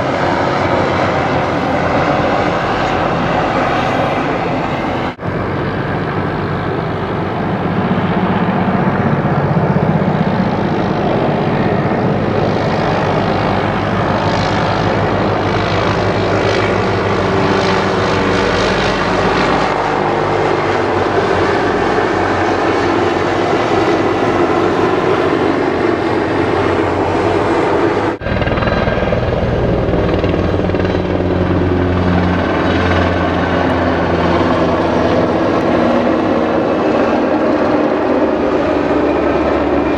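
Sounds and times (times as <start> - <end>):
helicopter rotor chop: 0.0 - 39.9.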